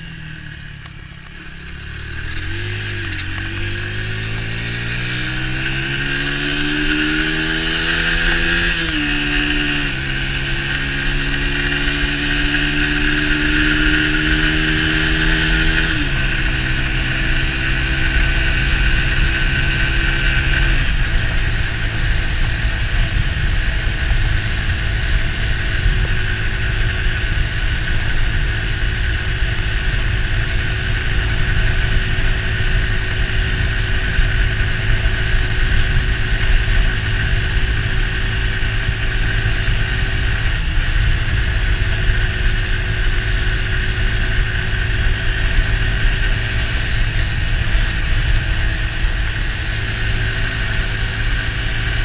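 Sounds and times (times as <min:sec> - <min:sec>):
motorcycle engine running: 0:00.0 - 0:52.0
wind rumble on microphone: 0:02.4 - 0:52.0.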